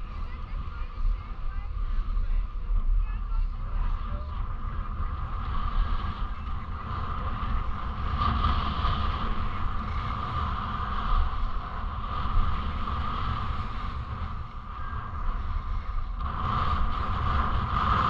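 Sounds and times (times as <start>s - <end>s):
skis sliding on packed snow: 0.0s - 18.0s
wind buffeting microphone: 0.0s - 18.0s.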